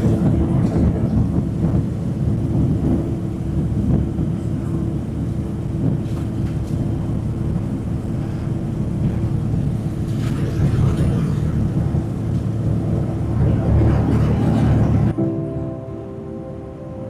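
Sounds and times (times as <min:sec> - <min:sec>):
plane engine and propeller drone: 0:00.0 - 0:17.0.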